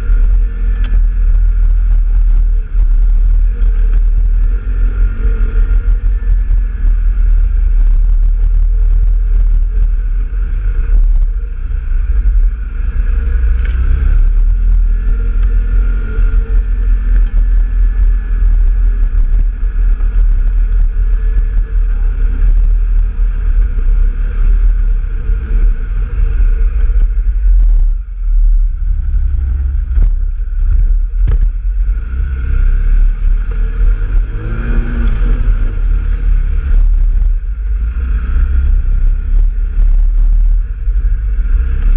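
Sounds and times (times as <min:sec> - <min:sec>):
off-road vehicle engine rumbling: 0:00.0 - 0:41.9.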